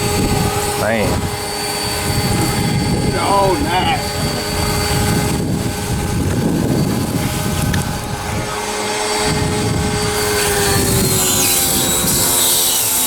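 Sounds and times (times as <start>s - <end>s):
pressure washer motor drone: 0.0s - 13.0s.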